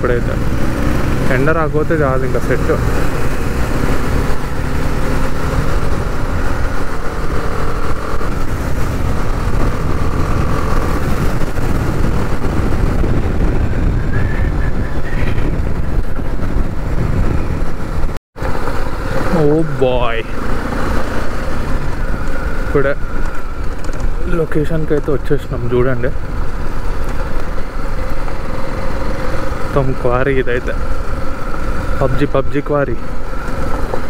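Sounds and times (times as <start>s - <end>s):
wind noise: 0.0s - 32.5s
motorcycle engine running: 0.0s - 34.0s
road noise: 0.0s - 34.0s.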